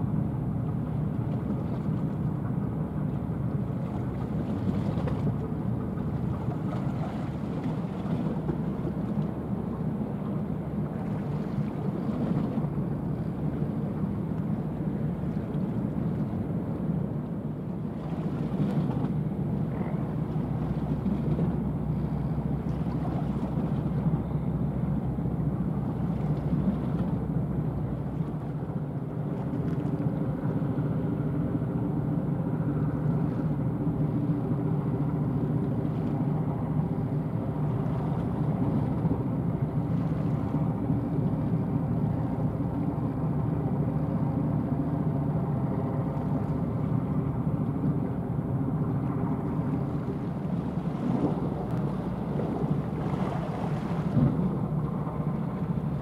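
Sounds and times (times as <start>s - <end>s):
ship diesel engine droning: 0.0s - 56.0s.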